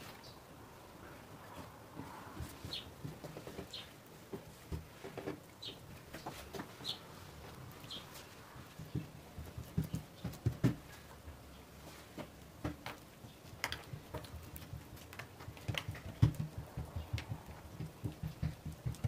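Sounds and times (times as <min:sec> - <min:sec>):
hands patting dough: 0:02.0 - 0:19.0.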